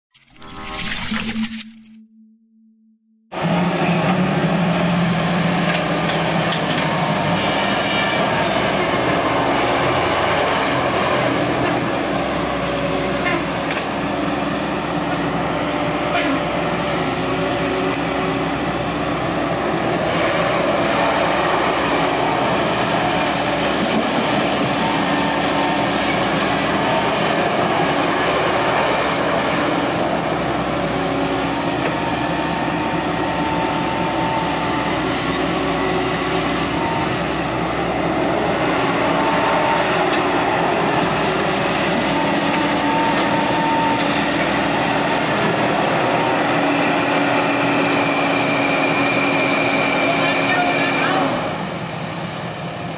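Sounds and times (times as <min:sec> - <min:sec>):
excavator engine drone: 0:02.2 - 0:52.9.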